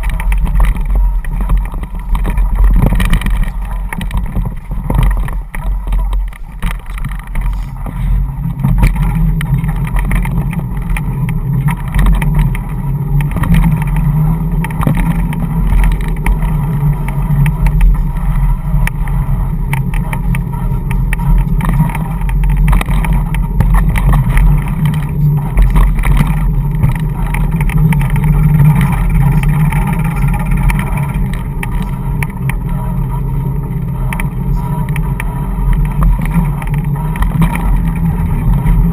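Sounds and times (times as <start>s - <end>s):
scooter wheels rolling on tarmac: 0.0s - 38.9s.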